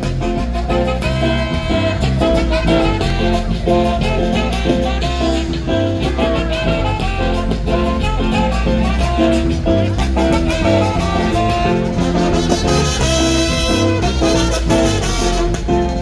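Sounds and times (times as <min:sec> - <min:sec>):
brass band dance tune: 0:00.0 - 0:16.0.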